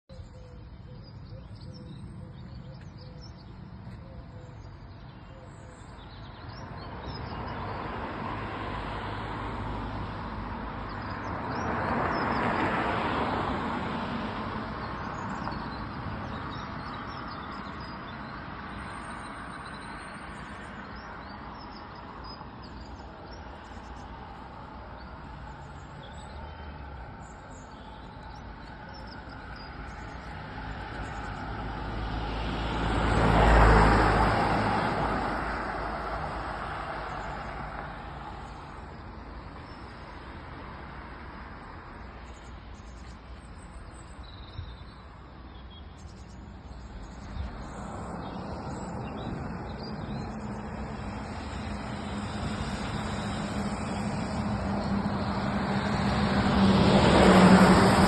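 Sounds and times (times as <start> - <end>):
hum of road traffic: 0.0 - 58.0
vehicle passing: 6.5 - 42.3, 46.4 - 58.0.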